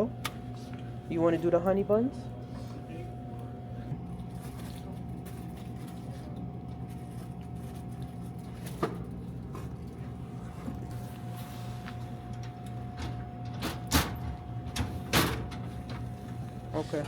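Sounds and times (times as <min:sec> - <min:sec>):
electrical machine hum: 0:00.0 - 0:17.0.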